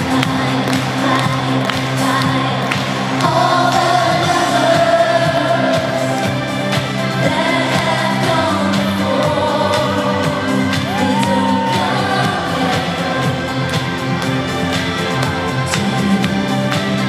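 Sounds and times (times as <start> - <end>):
woman singing lead: 0.0 - 14.2, 15.2 - 17.0
synth-pop band through sound system: 0.0 - 17.0.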